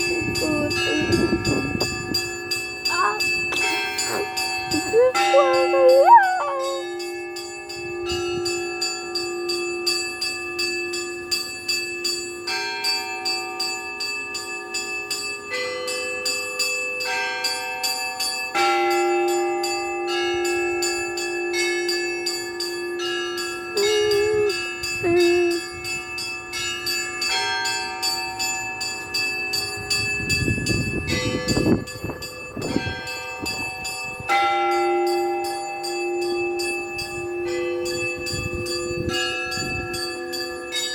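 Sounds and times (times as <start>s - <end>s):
deep church bell ringing: 0.0s - 40.9s
small bells struck rapidly: 0.0s - 40.9s.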